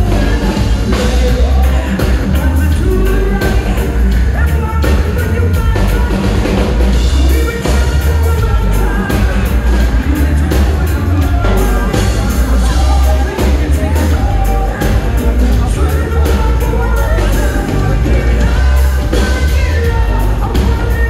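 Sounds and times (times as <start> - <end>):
congas: 0.0 - 21.0
heavy bass line: 0.0 - 21.0
person singing lead vocal: 0.0 - 21.0
reggae band playing live: 0.0 - 21.0.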